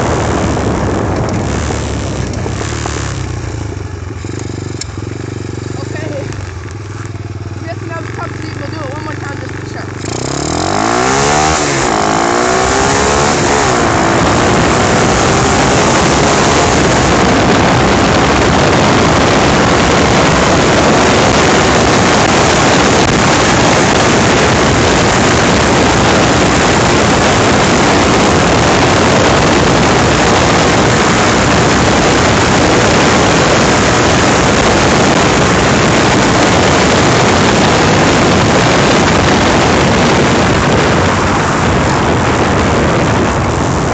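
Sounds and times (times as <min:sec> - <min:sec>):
dirt bike engine accelerating: 0:00.0 - 0:43.9
wind rushing on microphone: 0:00.0 - 0:43.9.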